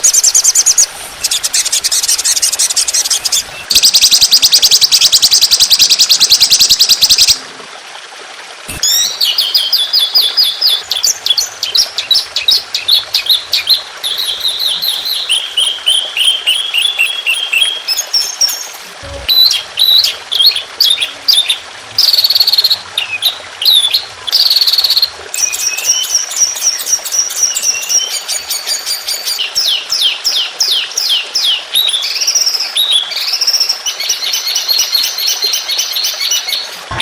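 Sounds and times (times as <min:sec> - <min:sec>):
songbird singing: 0:00.0 - 0:07.4, 0:08.7 - 0:37.0.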